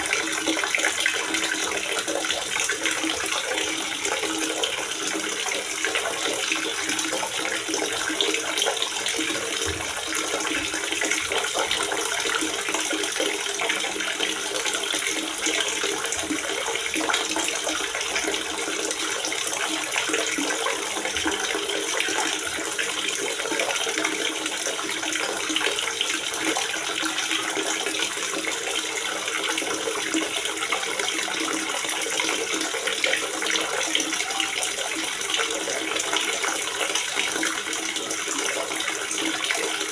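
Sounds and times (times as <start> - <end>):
water gurgling: 0.0 - 39.9.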